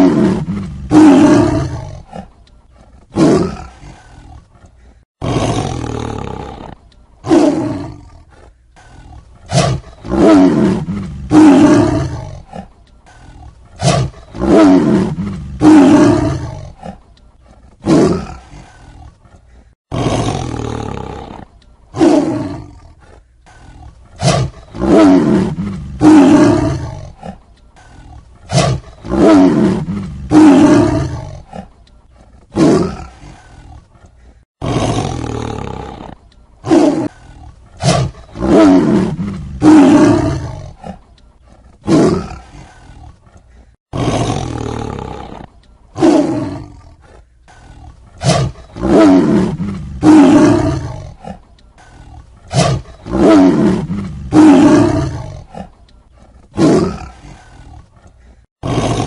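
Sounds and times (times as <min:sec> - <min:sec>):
tiger roaring: 0:00.0 - 0:59.0.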